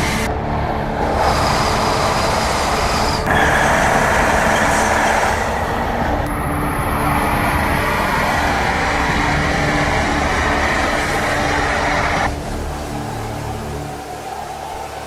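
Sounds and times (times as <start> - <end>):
trains rushing: 0.0 - 15.0.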